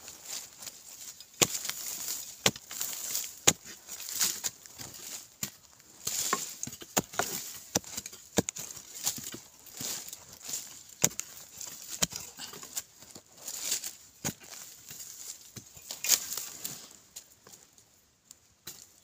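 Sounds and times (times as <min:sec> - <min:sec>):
soil and clods scattering: 0:00.0 - 0:17.6
digging tool striking dry earth: 0:00.2 - 0:16.8, 0:18.6 - 0:19.0.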